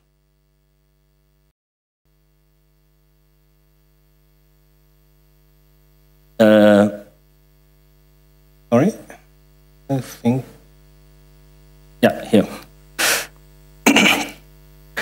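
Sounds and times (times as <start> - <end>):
electrical mains hum: 0.0 - 1.5, 2.1 - 15.0.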